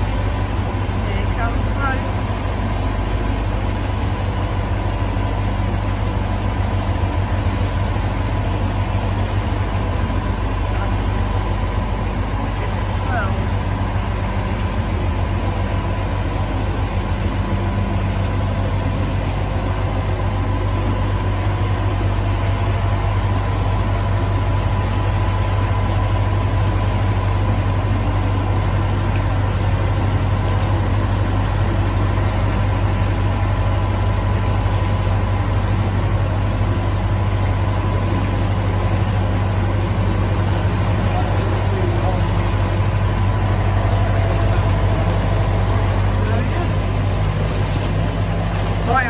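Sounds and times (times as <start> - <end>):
boat diesel engine humming: 0.0 - 49.0.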